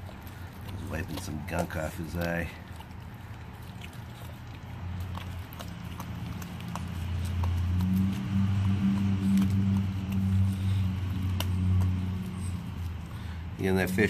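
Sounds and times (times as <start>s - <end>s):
low steady hum: 0.0s - 14.0s
puppy crunching frozen fish: 0.0s - 14.0s.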